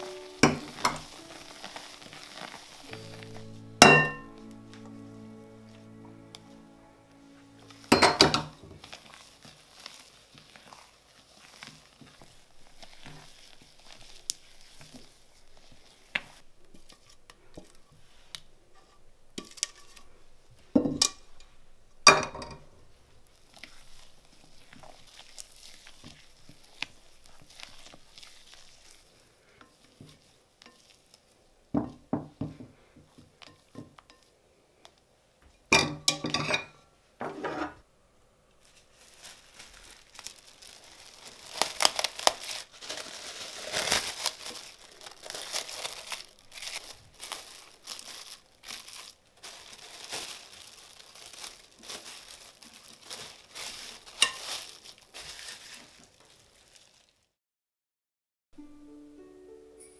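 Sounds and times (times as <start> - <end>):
crinkling and rustling: 0.0 - 35.6, 38.5 - 57.3.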